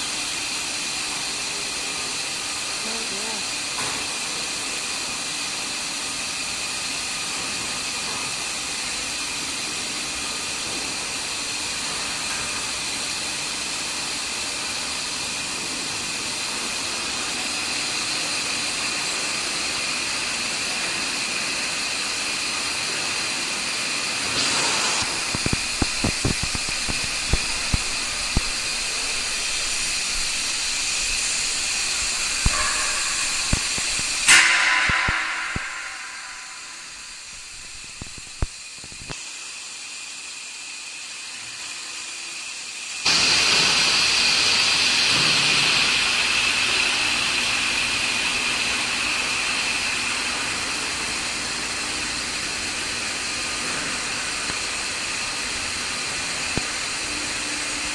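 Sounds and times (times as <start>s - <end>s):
loud industrial hiss: 0.0s - 57.9s.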